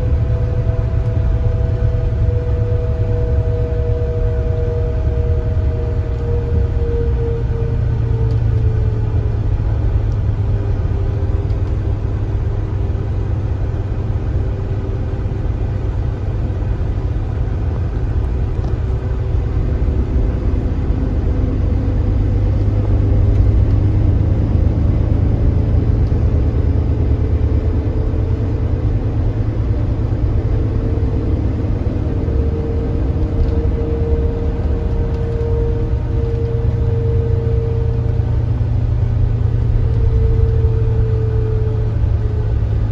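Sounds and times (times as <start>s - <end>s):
coach engine low rumble: 0.0s - 42.9s
thin engine whine: 0.0s - 42.9s.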